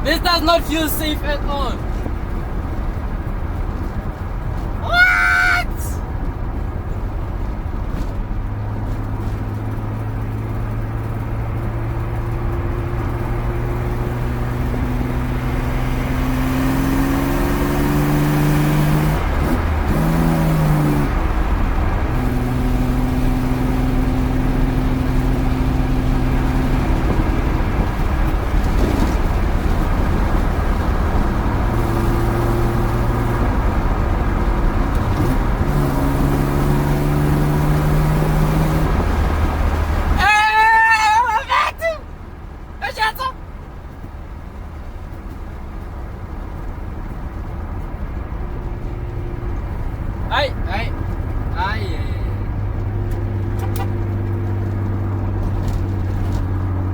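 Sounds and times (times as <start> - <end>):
car engine droning while driving: 0.0 - 56.9.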